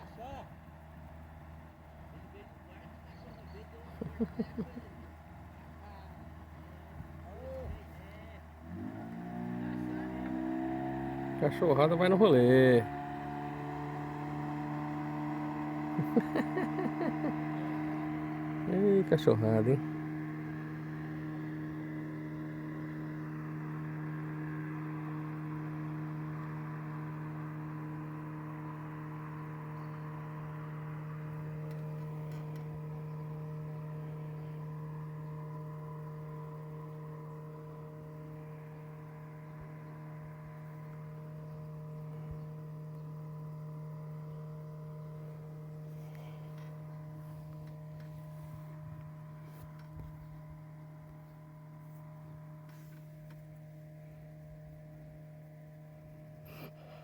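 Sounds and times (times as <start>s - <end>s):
boat motor humming: 0.0s - 57.0s.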